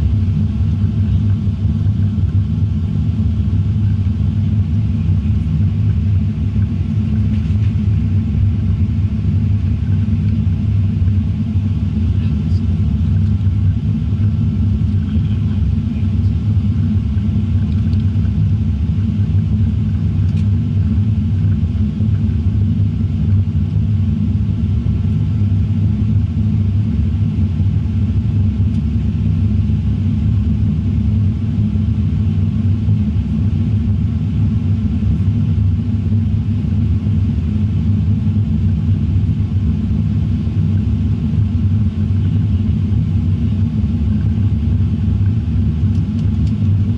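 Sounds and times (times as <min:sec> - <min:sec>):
airliner cabin engine rumble: 0:00.0 - 0:46.9
faint steady whine: 0:00.0 - 0:46.9.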